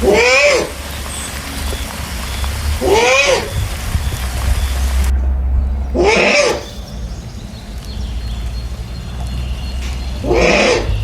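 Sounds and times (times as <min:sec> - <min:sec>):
drawn-out animal call: 0:00.0 - 0:11.0
steady low hum: 0:00.0 - 0:11.0.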